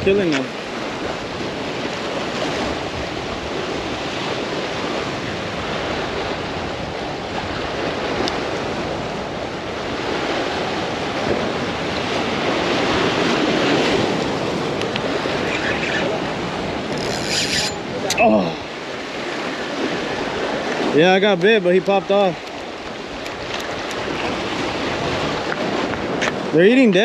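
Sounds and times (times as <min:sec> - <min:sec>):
wind on microphone: 0:00.0 - 0:21.0, 0:22.6 - 0:27.0.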